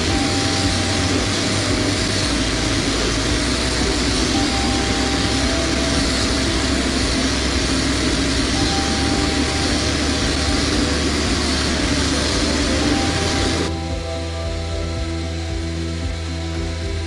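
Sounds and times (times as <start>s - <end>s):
sandblasting air and grit hiss: 0.0s - 17.0s.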